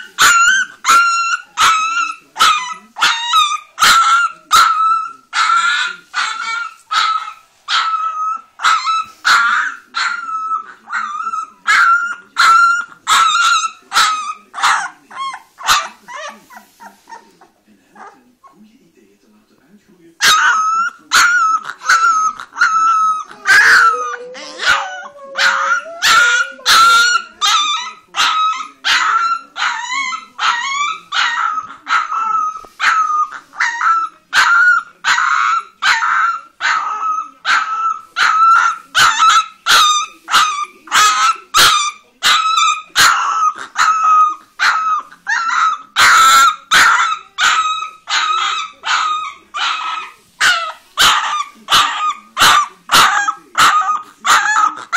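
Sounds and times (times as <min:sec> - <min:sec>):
puppy barking in high yelps: 0:00.0 - 0:16.4, 0:20.2 - 0:54.9.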